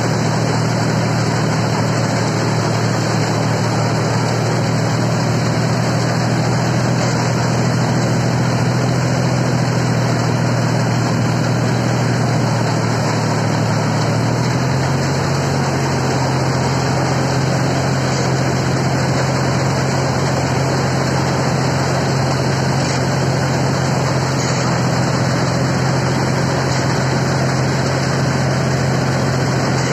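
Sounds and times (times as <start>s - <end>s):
broad mechanical hum: 0.0s - 29.9s
diesel engine running under load: 0.0s - 29.9s.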